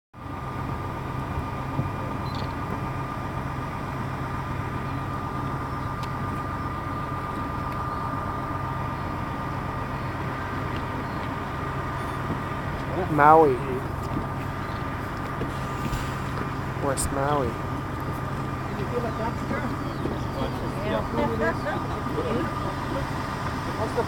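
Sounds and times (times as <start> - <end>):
low mechanical hum: 0.2 - 24.0.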